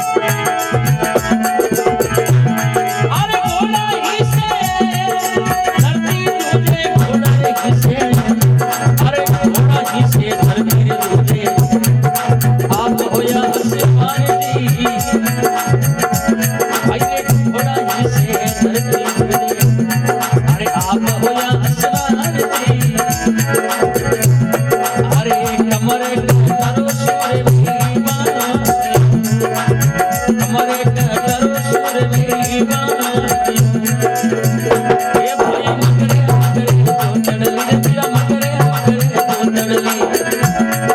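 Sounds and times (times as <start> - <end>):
hand percussion and rattles: 0.0 - 40.9
sustained melodic instruments: 0.0 - 40.9.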